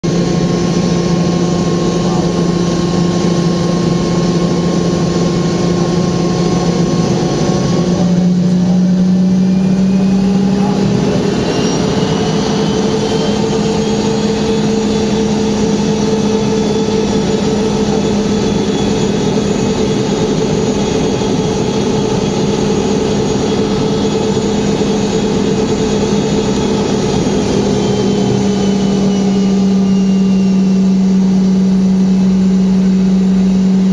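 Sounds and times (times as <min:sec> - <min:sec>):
higher engine whine: 0:00.0 - 0:33.9
jet engines whining: 0:00.0 - 0:33.9.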